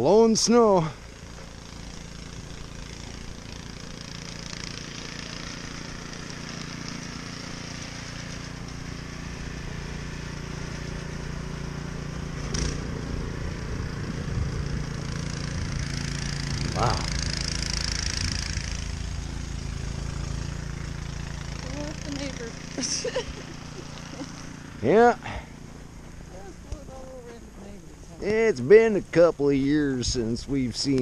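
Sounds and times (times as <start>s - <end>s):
snowblower engine running: 0.0s - 31.0s.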